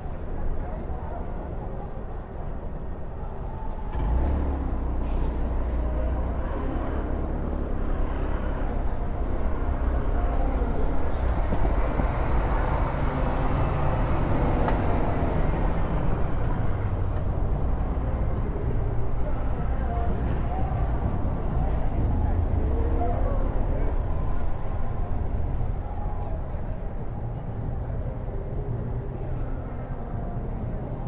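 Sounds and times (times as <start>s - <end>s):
low engine rumble: 0.0s - 31.0s
street traffic: 0.0s - 31.0s.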